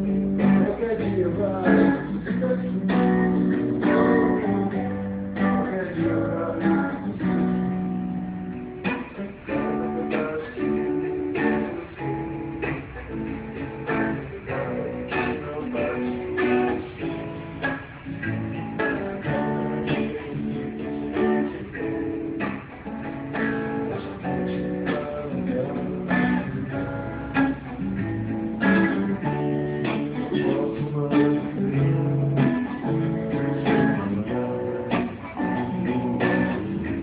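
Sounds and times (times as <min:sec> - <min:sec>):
acoustic guitar strumming and picking: 0:00.0 - 0:37.0.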